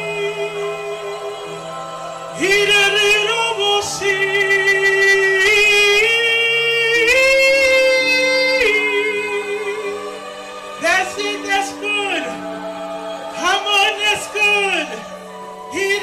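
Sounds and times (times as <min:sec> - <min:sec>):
sustained chords: 0:00.0 - 0:16.0.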